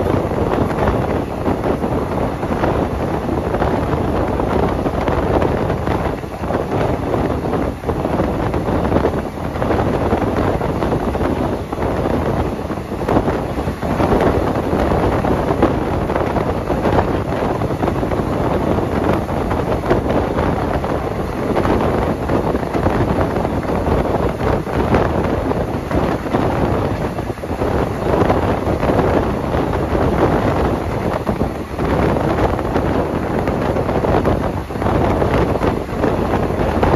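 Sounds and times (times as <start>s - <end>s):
train wheels rumbling on rails: 0.0s - 36.9s
wind buffeting microphone: 0.0s - 36.9s.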